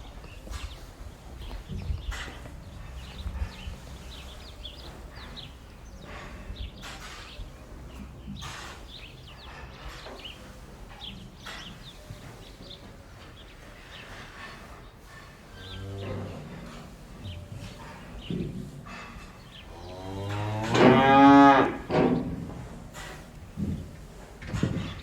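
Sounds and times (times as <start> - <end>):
small birds chirping: 0.0 - 20.6.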